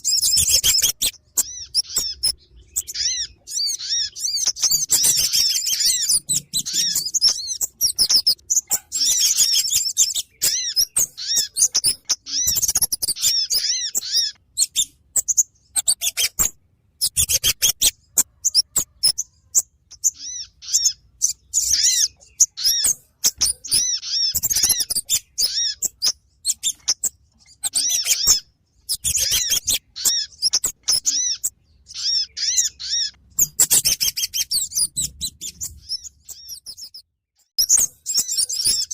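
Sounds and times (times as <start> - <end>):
sharp bird ticks: 0.0 - 31.6, 32.2 - 38.9
high-pitched bird chirps: 0.0 - 38.9.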